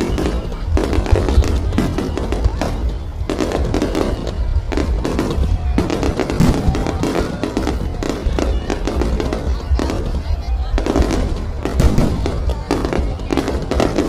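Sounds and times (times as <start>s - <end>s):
fireworks bursting and crackling: 0.0s - 14.0s.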